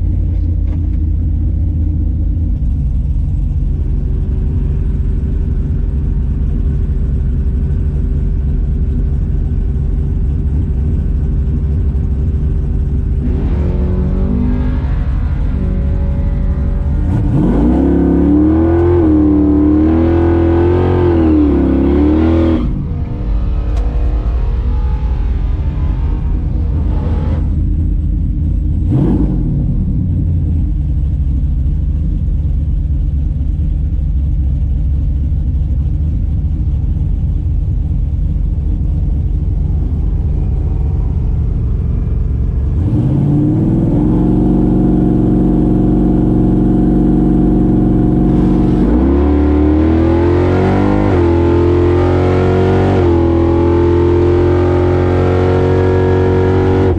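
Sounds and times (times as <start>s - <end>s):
drag car engine revving: 0.0s - 56.9s.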